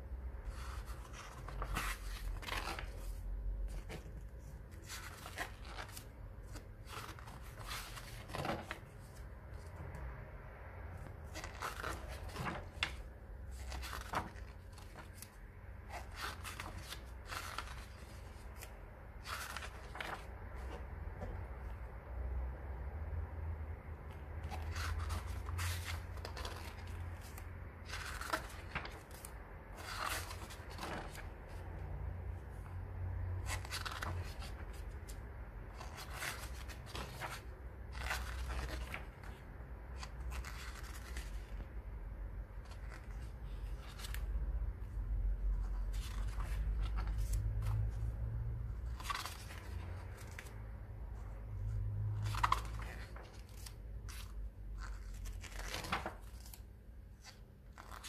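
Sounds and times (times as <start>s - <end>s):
pages turning: 0.5s - 9.8s, 11.0s - 21.8s, 24.4s - 31.6s, 33.4s - 41.7s, 42.5s - 44.4s, 45.6s - 48.1s, 48.8s - 50.6s, 52.0s - 58.0s.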